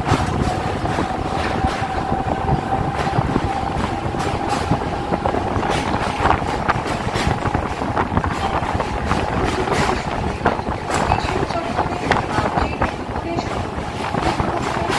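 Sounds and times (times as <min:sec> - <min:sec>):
high whine: 0:00.0 - 0:14.5
sharp clacks of wheels on rails: 0:00.0 - 0:14.9
train rumble and rattle: 0:00.0 - 0:14.9.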